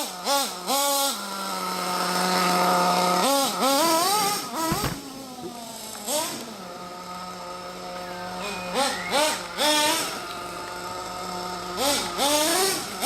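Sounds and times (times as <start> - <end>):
model engine idling and revving: 0.0 - 13.0.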